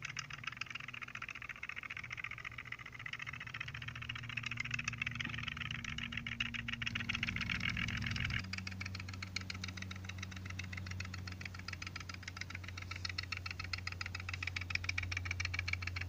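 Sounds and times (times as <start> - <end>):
low hum: 0.0 - 16.0
woodpecker toy clicking on pole: 0.0 - 16.0.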